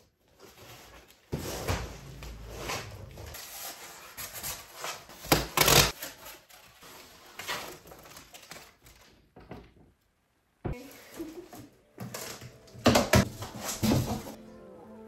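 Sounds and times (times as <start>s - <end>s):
cardboard and foam rustling: 0.2s - 9.3s, 10.7s - 14.4s.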